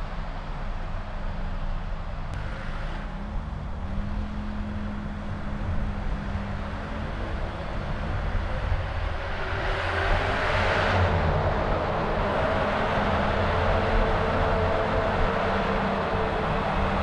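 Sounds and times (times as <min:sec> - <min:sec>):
car road and engine noise: 0:00.0 - 0:17.0
rush of noise: 0:02.2 - 0:17.0.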